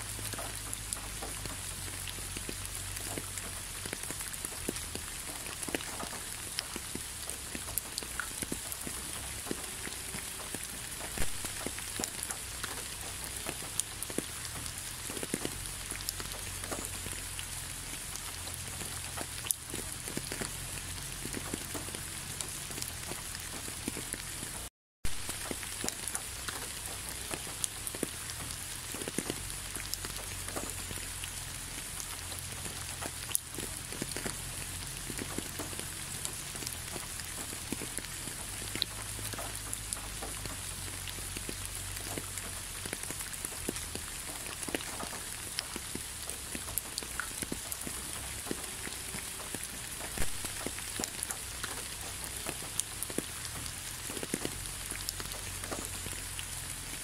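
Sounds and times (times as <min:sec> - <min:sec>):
raindrop hits: 0:00.0 - 0:57.0
steady rainfall: 0:00.0 - 0:57.0.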